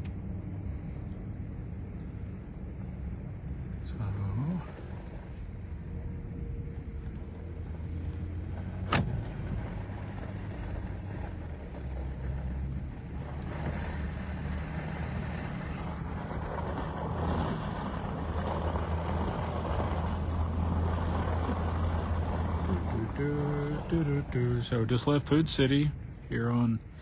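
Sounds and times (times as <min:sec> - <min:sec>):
car engine humming: 0:00.0 - 0:27.0
tyre and road noise: 0:00.0 - 0:27.0.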